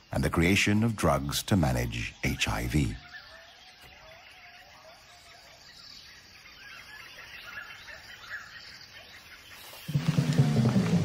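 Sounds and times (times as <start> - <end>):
birds calling and chirping: 0.0 - 11.0
faint forest ambience: 0.0 - 11.0.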